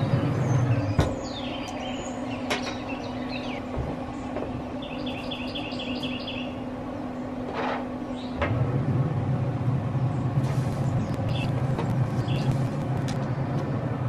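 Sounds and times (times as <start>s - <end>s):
songbirds calling: 0.0s - 8.4s, 10.0s - 13.9s
steady low hum: 0.0s - 14.0s.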